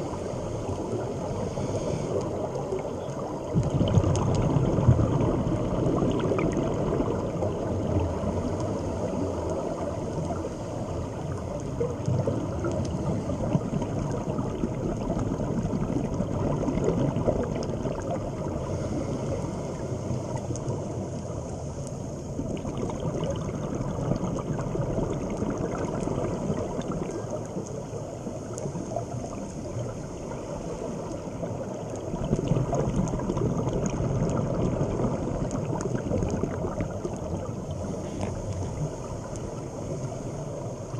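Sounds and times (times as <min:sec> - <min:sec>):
muffled underwater rushing water: 0:00.0 - 0:40.9.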